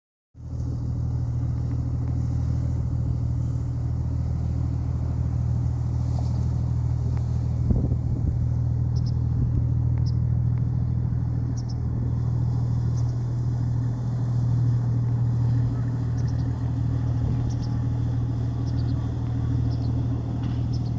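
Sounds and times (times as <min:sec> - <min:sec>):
diesel boat engine idling: 0:00.4 - 0:20.9.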